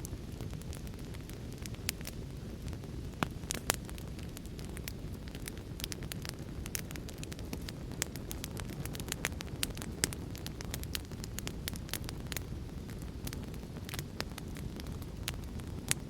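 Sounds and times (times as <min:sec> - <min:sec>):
fire pops: 0:00.0 - 0:16.0
low rumbling hiss: 0:00.0 - 0:16.0
wood fire crackling: 0:00.0 - 0:16.0.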